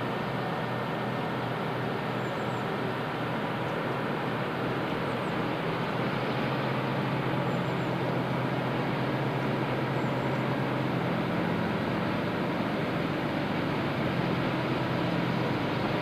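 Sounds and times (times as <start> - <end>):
distant diesel locomotive drone: 0.0 - 16.0.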